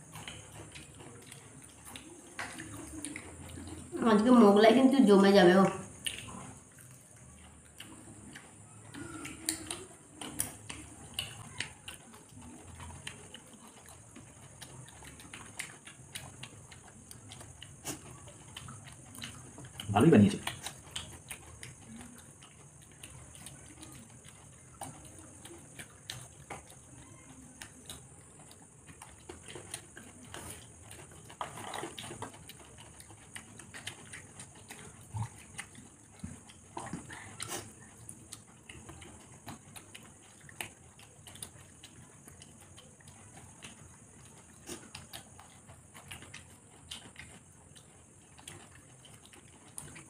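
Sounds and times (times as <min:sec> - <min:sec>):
chewing and lip-smacking: 0:00.0 - 0:50.0.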